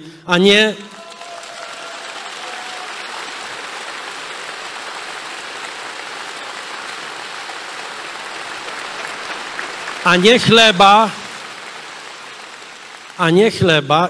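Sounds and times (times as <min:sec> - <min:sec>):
crowd applauding: 0:00.8 - 0:14.0.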